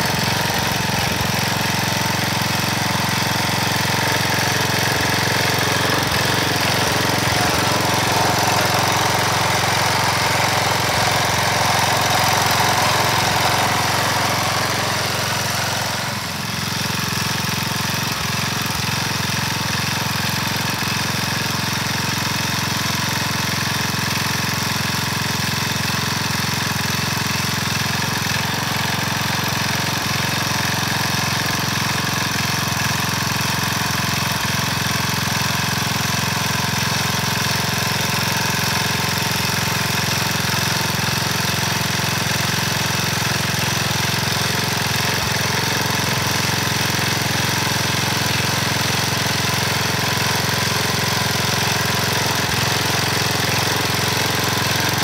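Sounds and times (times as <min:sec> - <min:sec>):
garden tiller engine running: 0:00.0 - 0:55.0.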